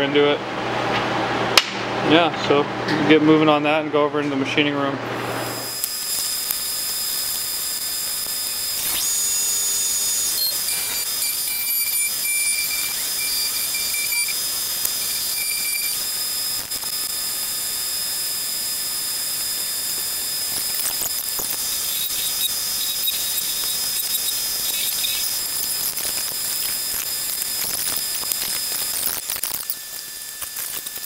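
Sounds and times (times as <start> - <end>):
milling machine hiss and whine: 5.3 - 31.0.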